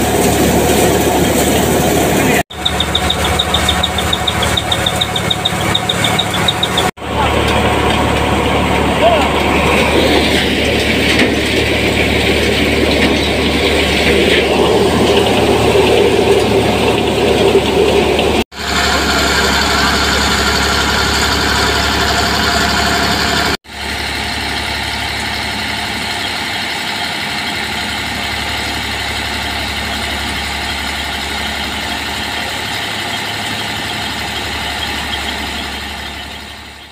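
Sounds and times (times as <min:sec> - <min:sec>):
threshing machine whirr and rattle: 0:00.0 - 0:36.9
tractor diesel engine running: 0:00.0 - 0:36.9.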